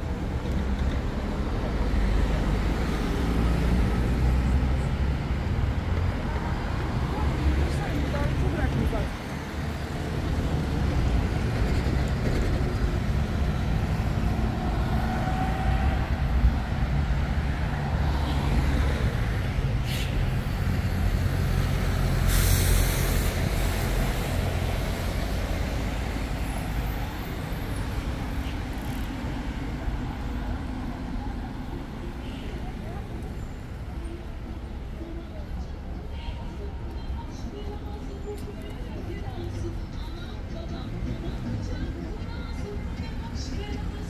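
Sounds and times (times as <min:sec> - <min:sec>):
street traffic: 0:00.0 - 0:44.0.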